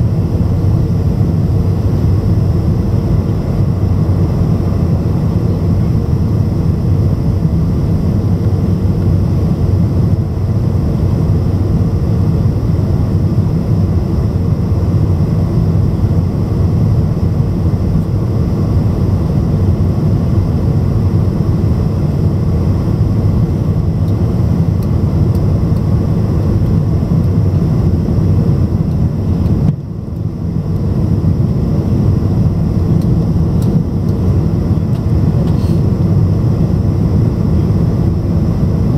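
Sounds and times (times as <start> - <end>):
jet engine drone: 0.0 - 38.9.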